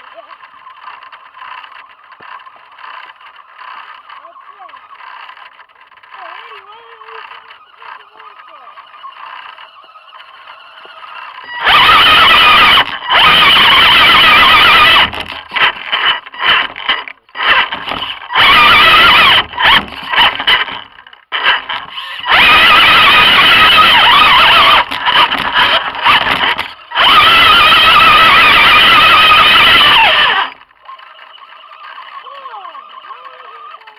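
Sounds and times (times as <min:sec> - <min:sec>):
electric motors whining: 0:00.0 - 0:33.9.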